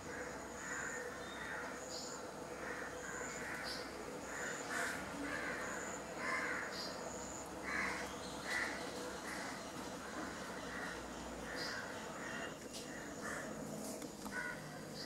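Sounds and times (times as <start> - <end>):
birds harsh calls: 0.0 - 13.7.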